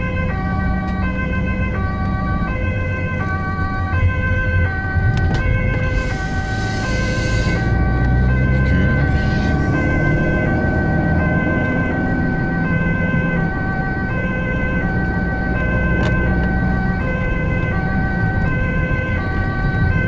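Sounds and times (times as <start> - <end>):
engine and road rumble: 0.0 - 20.0
two-tone ambulance siren: 0.0 - 20.0.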